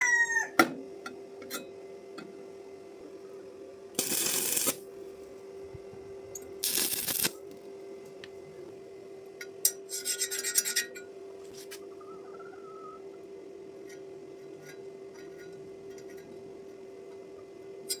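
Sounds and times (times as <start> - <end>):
steady hum: 0.6 - 18.0.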